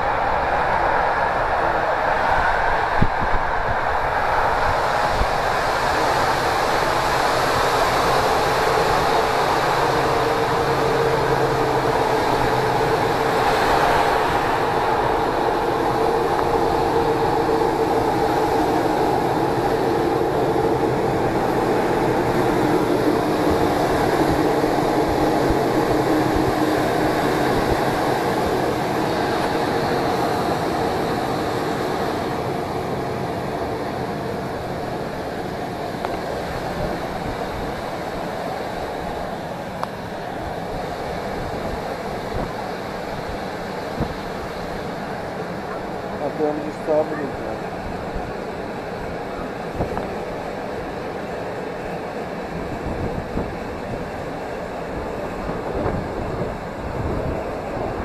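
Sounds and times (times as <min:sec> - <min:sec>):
constant hum: 0:00.0 - 0:58.0
train wheels rumbling on rails: 0:00.0 - 0:58.0.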